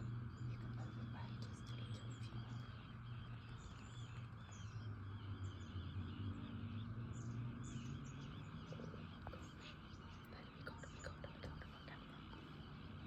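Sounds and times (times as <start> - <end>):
faint bird calls and chirps: 0.0 - 13.0
low hum: 0.0 - 13.0.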